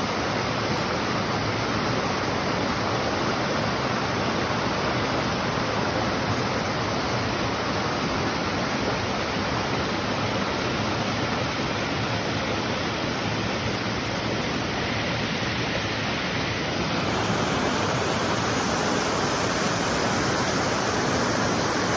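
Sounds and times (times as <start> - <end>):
waterfall pouring: 0.0 - 21.9.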